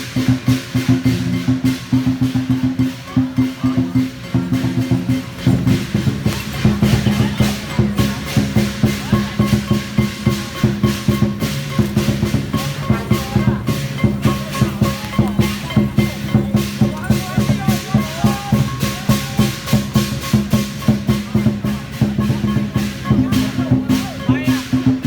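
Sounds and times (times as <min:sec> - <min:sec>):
crashing cymbals: 0:00.0 - 0:25.0
drums beaten fast: 0:00.0 - 0:25.0.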